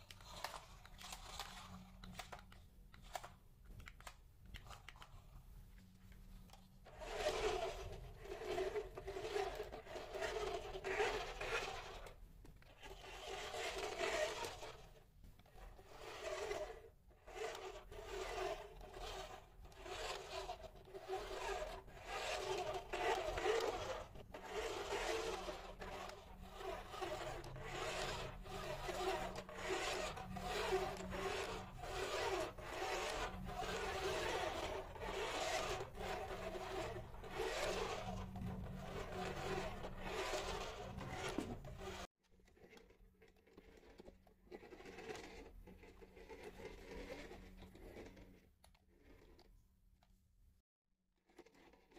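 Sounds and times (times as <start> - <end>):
toy electric motor whirring: 0.0 - 5.3, 6.5 - 49.5, 51.3 - 51.9
toy wheels on tiled floor: 0.0 - 5.4, 6.1 - 49.6, 51.3 - 51.9.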